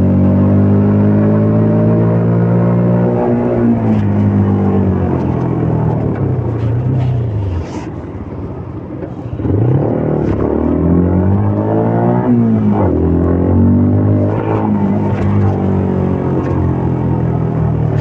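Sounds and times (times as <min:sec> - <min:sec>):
motorcycle engine revving: 0:00.0 - 0:07.6, 0:09.4 - 0:18.0.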